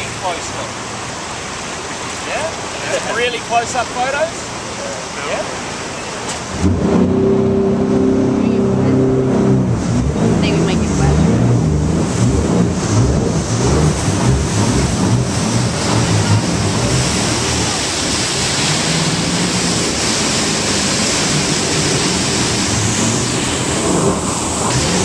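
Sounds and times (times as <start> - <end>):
boat engine running low: 0.0 - 25.0
waterfall rushing: 0.0 - 25.0.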